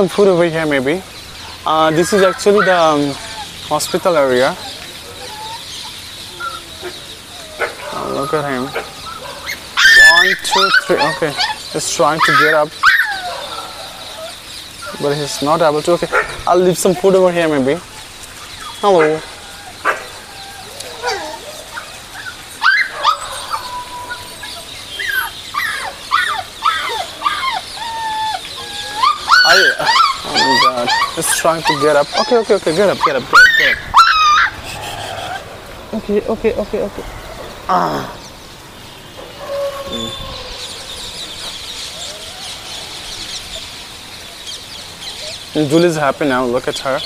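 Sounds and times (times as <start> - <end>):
puppies whimpering: 0.0 - 38.4, 39.2 - 47.0
small birds chirping chorus: 0.0 - 47.0.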